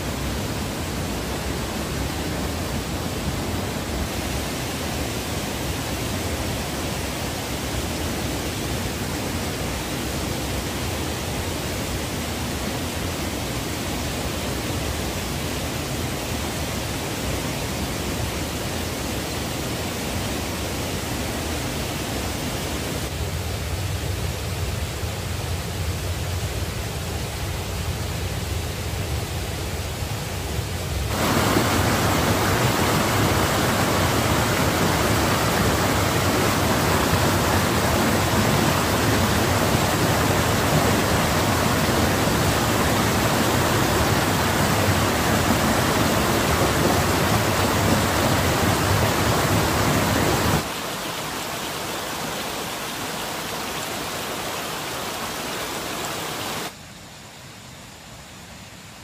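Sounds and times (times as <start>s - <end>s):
steady rushing noise: 0.0s - 56.8s.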